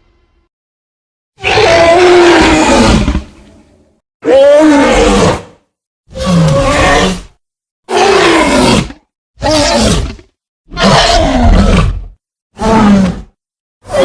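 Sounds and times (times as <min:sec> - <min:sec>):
dinosaur roars: 0:01.4 - 0:14.0.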